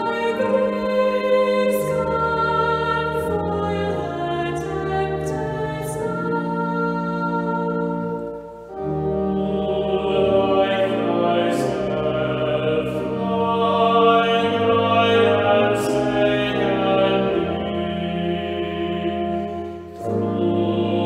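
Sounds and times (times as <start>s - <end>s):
organ chords: 0.0s - 21.0s
voices singing church music: 0.0s - 21.0s.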